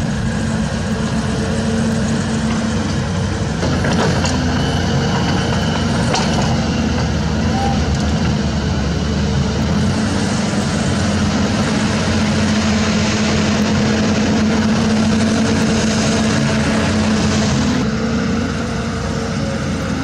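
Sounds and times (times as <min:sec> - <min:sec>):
diesel engine low drone: 0:00.0 - 0:20.0.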